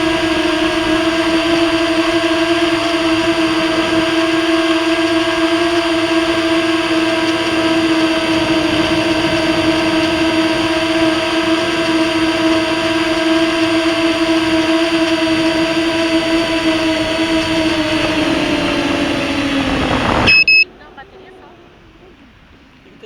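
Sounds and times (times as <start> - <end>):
drone motors whining: 0.0 - 22.6.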